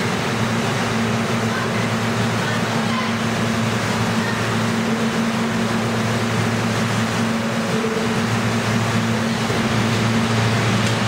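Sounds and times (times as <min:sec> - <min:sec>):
air-conditioning hiss: 0:00.0 - 0:11.0
train low hum: 0:00.0 - 0:11.0.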